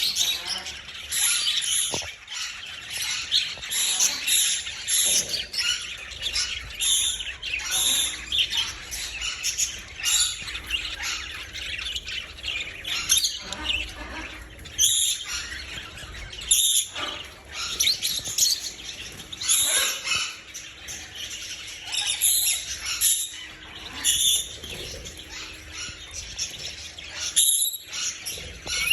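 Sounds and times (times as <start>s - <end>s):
caged birds chirping and squawking: 0.0s - 28.9s.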